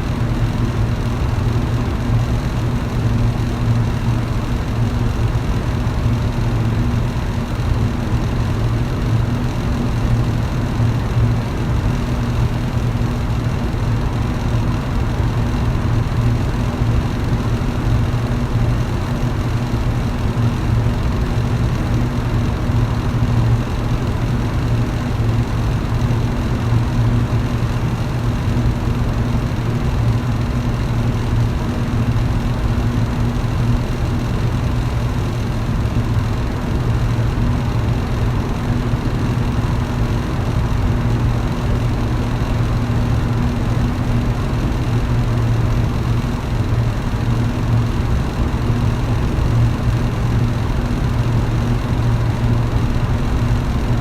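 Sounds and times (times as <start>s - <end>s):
electric fan running: 0.0s - 54.0s.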